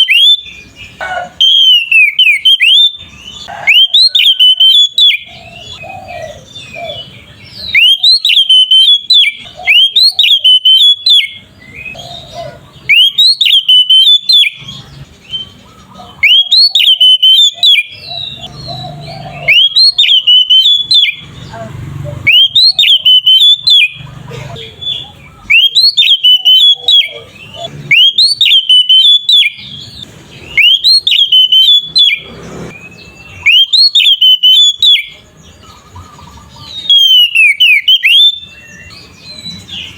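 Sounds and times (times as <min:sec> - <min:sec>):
magpie-robin singing whistled phrase: 0:00.0 - 0:39.9.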